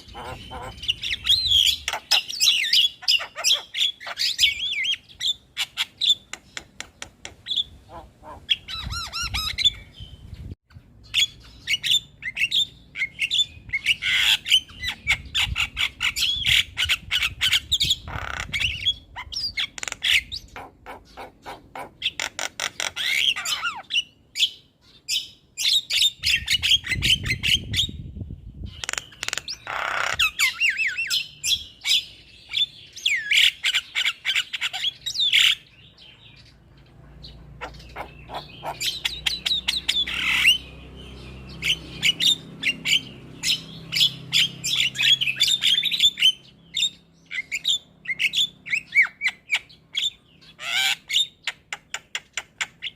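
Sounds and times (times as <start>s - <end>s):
myna bird chattering: 0.0s - 10.5s, 11.1s - 28.0s, 28.6s - 52.9s.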